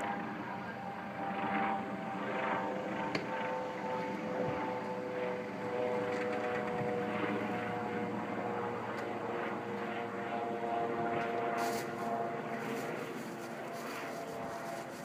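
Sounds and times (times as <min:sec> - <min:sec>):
helicopter drone overhead: 0:00.0 - 0:15.0.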